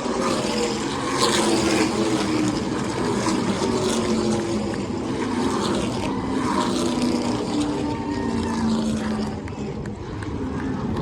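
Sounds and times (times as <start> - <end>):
race truck engines passing: 0.0 - 11.0.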